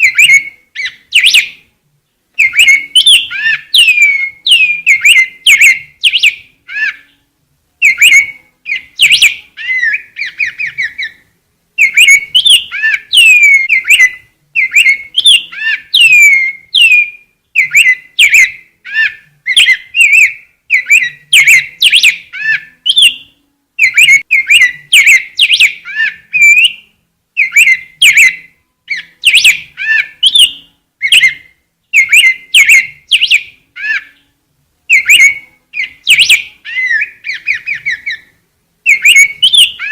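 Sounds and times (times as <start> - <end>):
grosbeak singing whistled notes: 0.0 - 39.9.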